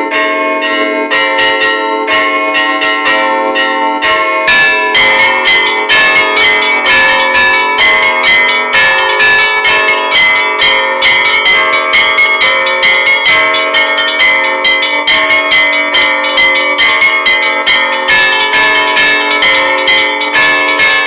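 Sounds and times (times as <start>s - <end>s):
hum of large bells: 0.0s - 21.0s
small church bells ringing: 0.0s - 21.0s.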